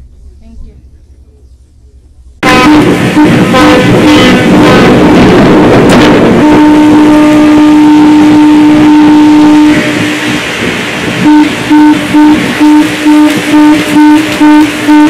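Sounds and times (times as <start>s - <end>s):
rushing noise: 2.0s - 15.0s
ship's horn blasts: 2.4s - 15.0s.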